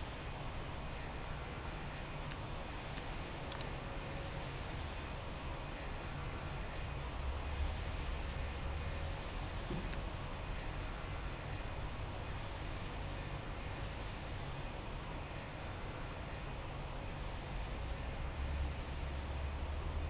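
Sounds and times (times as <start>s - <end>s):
distant jet aircraft engines: 0.0s - 20.0s.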